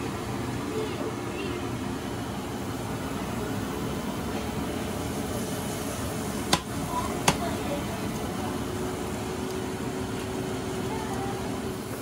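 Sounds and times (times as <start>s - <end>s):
appliance fan whirring hum: 0.0s - 12.0s.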